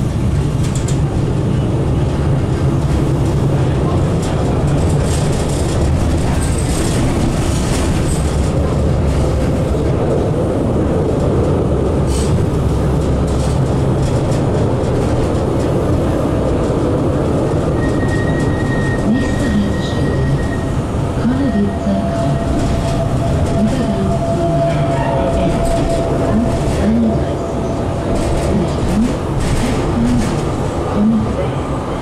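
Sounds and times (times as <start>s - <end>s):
tram wheels rumbling on rails: 0.0s - 32.0s.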